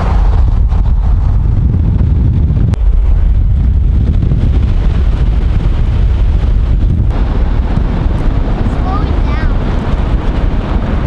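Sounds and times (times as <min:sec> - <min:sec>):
road noise: 0:00.0 - 0:11.0
wind buffeting microphone: 0:00.0 - 0:11.0.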